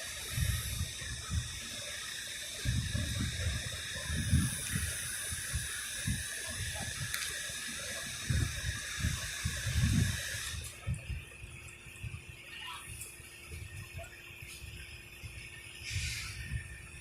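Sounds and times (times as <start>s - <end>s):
steady hiss: 0.0s - 11.8s, 12.4s - 17.0s
wind buffeting microphone: 0.0s - 12.3s, 15.2s - 17.0s.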